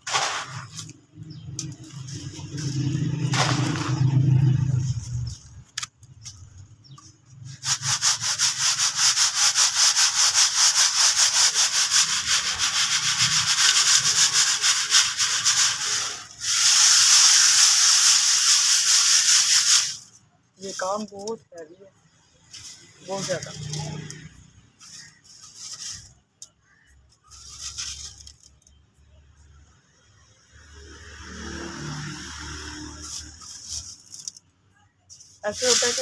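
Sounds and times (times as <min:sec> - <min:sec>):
gritty powder scraping through sieve: 0:00.0 - 0:05.6, 0:07.4 - 0:21.2, 0:22.4 - 0:28.6, 0:31.2 - 0:34.4, 0:35.2 - 0:36.0.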